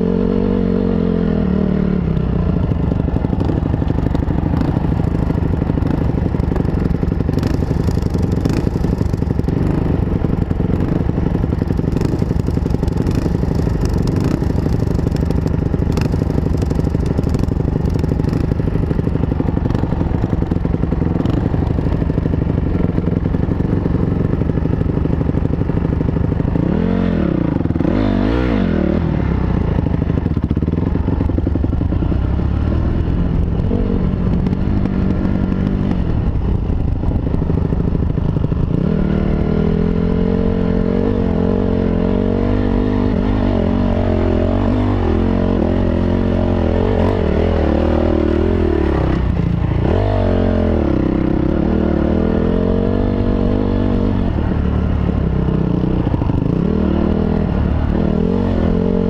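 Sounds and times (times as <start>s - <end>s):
dirt bike engine revving: 0.0s - 36.4s, 37.4s - 59.0s.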